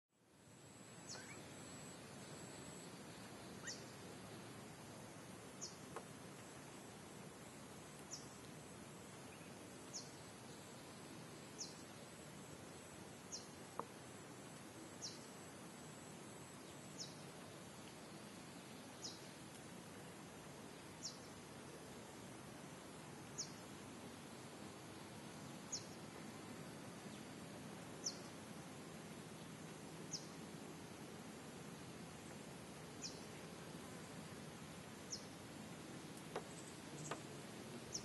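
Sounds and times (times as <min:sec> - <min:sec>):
faint steady hiss: 0:00.1 - 0:38.0.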